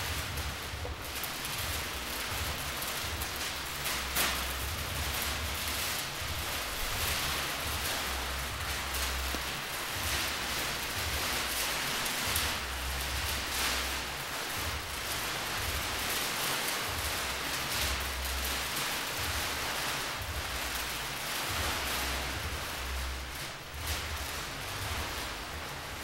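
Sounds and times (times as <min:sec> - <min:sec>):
low rumbles: 0:00.0 - 0:26.0.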